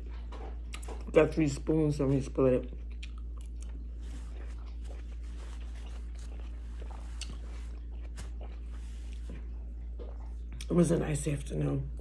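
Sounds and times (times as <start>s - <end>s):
person chewing fruit: 0.0s - 10.7s
steady low hum: 0.0s - 12.0s.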